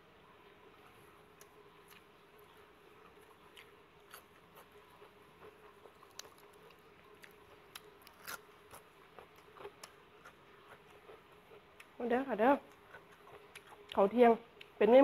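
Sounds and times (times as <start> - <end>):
faint steady hum: 0.0 - 15.0
person chewing food: 0.8 - 12.0, 12.7 - 14.8.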